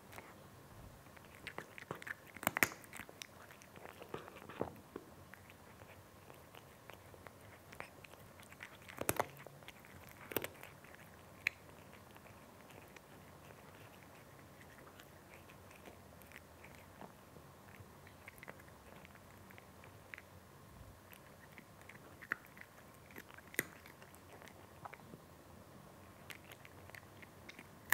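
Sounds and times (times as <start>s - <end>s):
cat crunching dry kibble: 1.1s - 20.3s, 21.1s - 25.0s, 26.2s - 27.9s.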